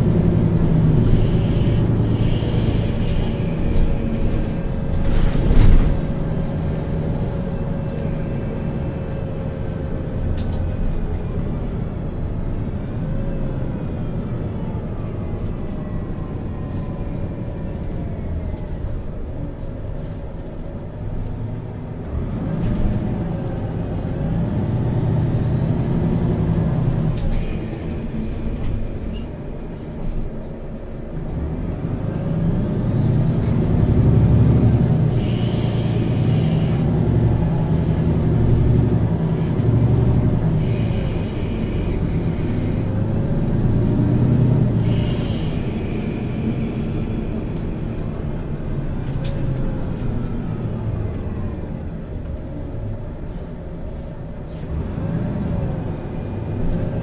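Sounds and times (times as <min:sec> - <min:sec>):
bus diesel engine pulling: 0:00.0 - 0:57.0.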